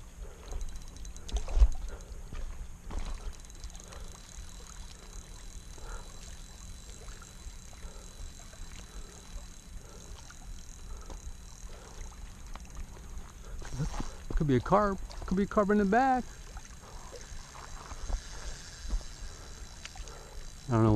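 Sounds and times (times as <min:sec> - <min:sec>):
faint ticks: 0:00.2 - 0:20.9.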